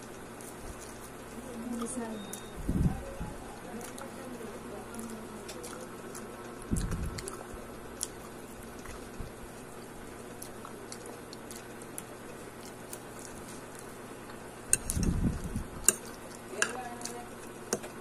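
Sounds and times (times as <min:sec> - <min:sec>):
chewing and mouth clicks: 0:00.0 - 0:02.5, 0:03.6 - 0:18.0.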